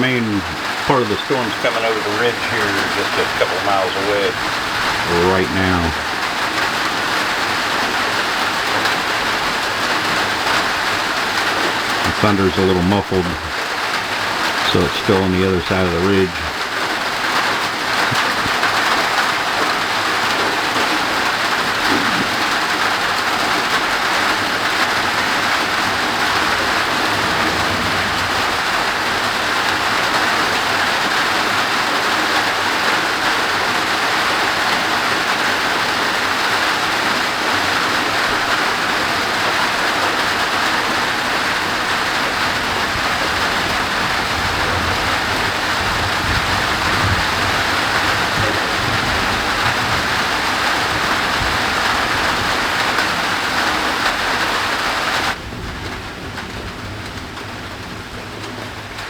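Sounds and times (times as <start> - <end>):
distant thunder rumbles: 0.0 - 32.9, 37.4 - 58.8
heavy downpour hissing: 0.0 - 59.0.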